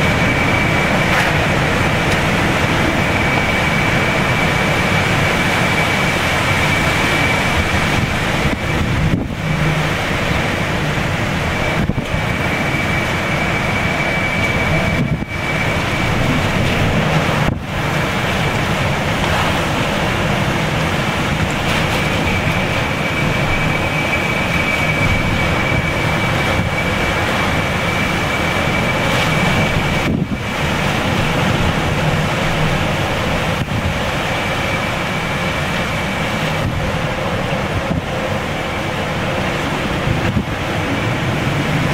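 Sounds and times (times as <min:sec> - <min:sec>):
hurricane wind noise: 0:00.0 - 0:41.9.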